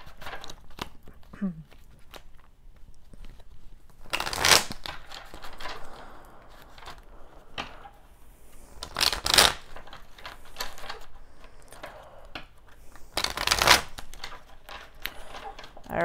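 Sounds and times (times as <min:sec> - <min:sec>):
riffle shuffle of cards: 0:00.0 - 0:07.8, 0:08.5 - 0:15.9
cards riffling and rustling: 0:00.0 - 0:15.9.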